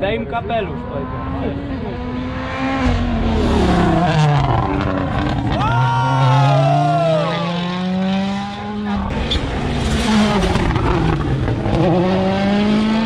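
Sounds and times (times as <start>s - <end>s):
rally car engines accelerating: 0.0s - 13.0s.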